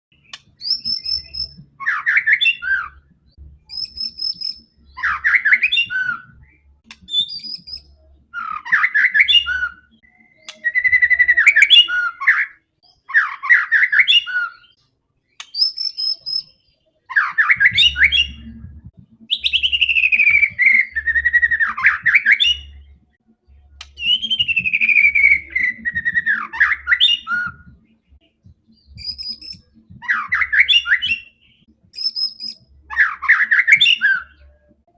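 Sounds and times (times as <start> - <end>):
bird singing warbled phrases: 0.1 - 34.9.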